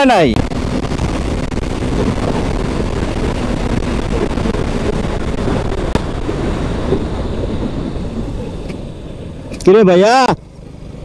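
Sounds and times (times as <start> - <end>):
wind buffeting microphone: 0.0 - 9.6
motorcycle engine: 0.0 - 11.0.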